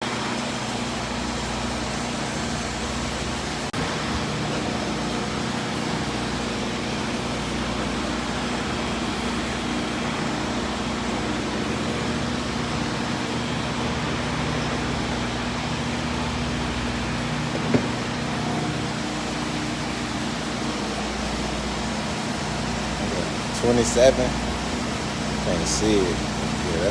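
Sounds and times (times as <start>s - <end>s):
steady mechanical hum: 0.0s - 26.9s.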